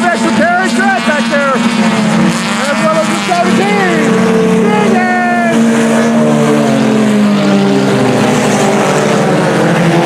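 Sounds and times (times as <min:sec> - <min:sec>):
race car engines: 0:00.0 - 0:10.0.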